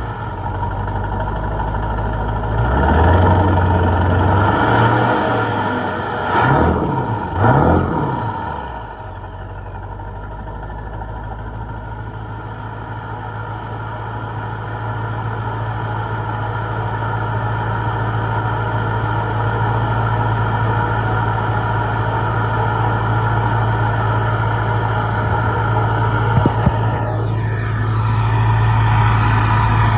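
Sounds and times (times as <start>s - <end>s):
diesel engine revving and running: 0.0s - 29.9s.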